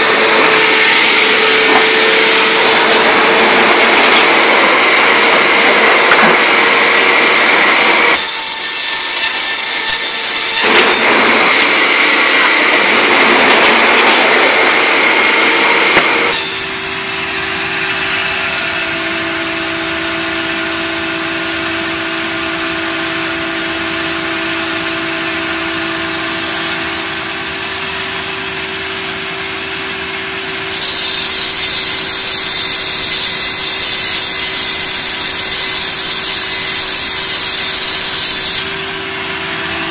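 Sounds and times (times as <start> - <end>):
circular log saw humming: 0.0 - 39.9
saw cutting: 0.0 - 39.9
sawmill machinery running: 0.0 - 39.9.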